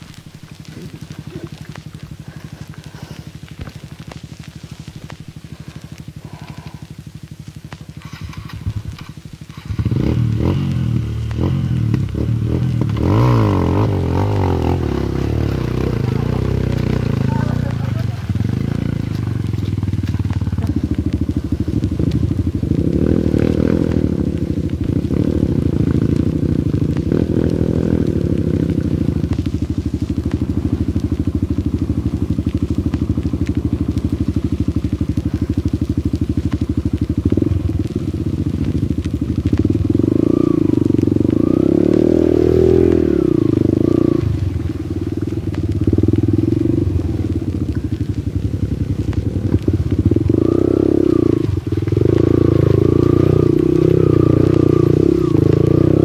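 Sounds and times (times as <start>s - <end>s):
dirt bike engine revving: 7.6s - 47.5s, 48.4s - 56.0s.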